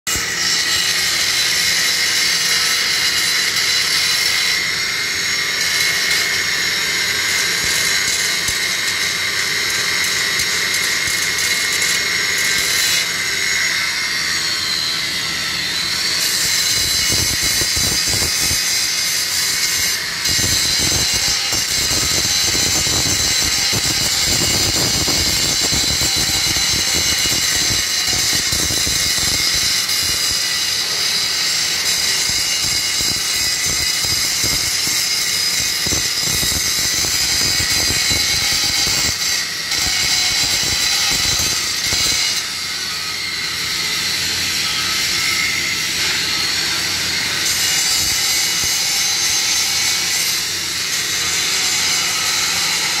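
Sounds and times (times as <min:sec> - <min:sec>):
angle grinder grinding steel: 0:00.1 - 0:53.0.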